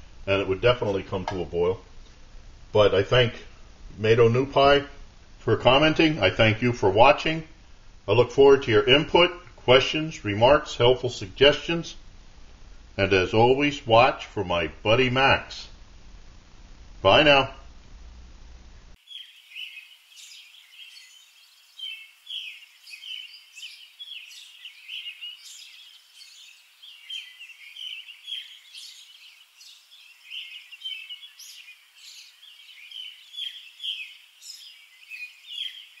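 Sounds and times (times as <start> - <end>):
songbirds chirping: 0.0 - 15.9, 18.9 - 36.0.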